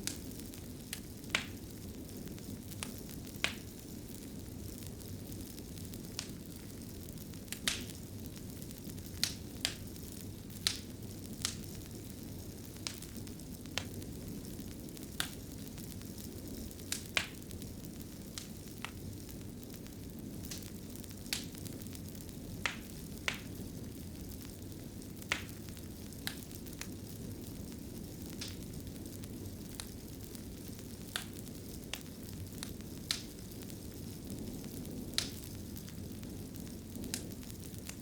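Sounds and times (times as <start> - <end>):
fire crackling: 0.0 - 38.0
fire pops and snaps: 0.0 - 38.0
flames rushing: 0.0 - 38.0.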